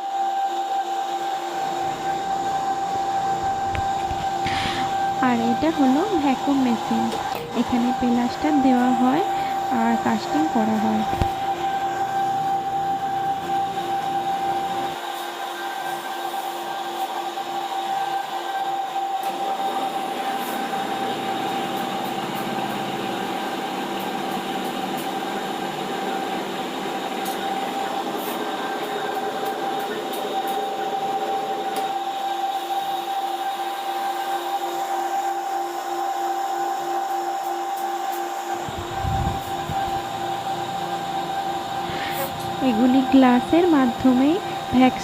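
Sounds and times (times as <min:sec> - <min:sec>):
vacuum pump humming and whining: 0:00.0 - 0:45.0.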